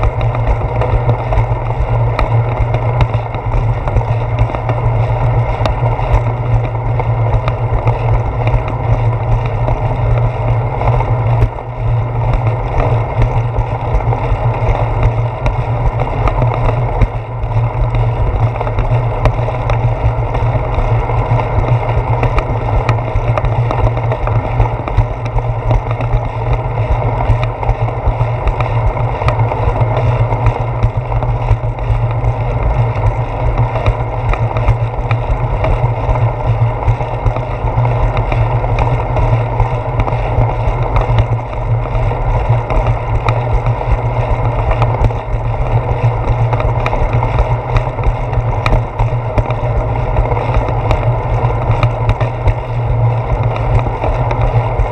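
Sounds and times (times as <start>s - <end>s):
faint clicks from bumps: 0.0s - 54.9s
wind and road rumble: 0.0s - 54.9s.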